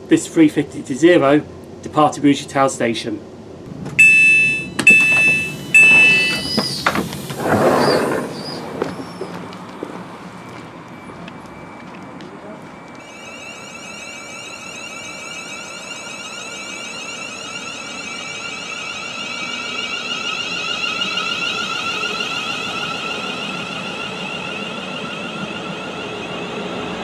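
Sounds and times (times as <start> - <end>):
train electronic whine: 3.3 - 27.0
train wheels rumbling: 3.4 - 27.0.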